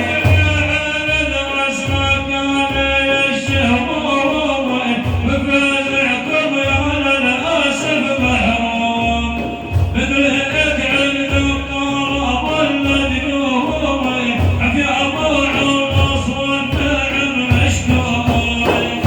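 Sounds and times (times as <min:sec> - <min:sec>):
low rhythmic beat: 0:00.0 - 0:19.0
man singing devotional song: 0:00.0 - 0:19.0.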